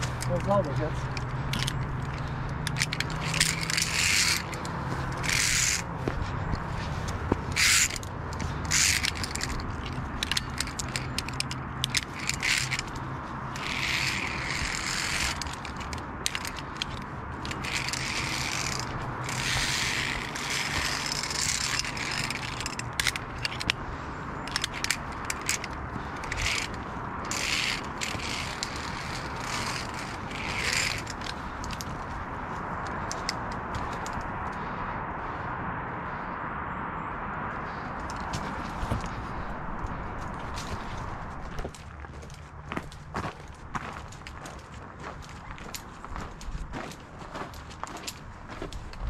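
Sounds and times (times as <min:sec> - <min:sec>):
carabiners clicking on steel cable: 0:00.0 - 0:34.6, 0:38.0 - 0:49.0.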